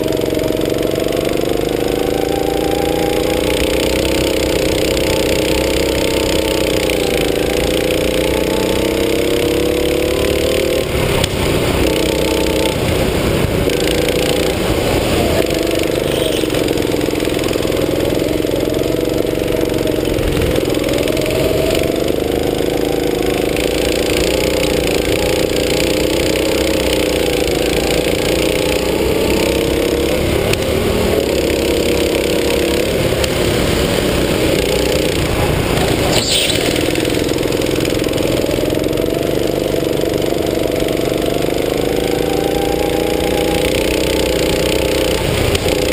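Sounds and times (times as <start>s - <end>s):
go-kart engine revving: 0.0s - 45.9s.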